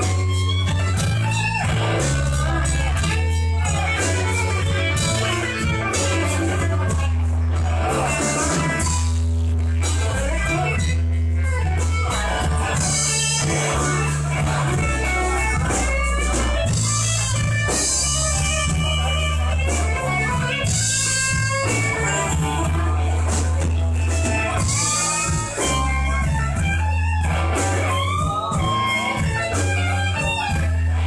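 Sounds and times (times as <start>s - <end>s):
bass guitar: 0.0s - 31.0s
electric guitar: 0.0s - 31.0s
slow blues band: 0.0s - 31.0s.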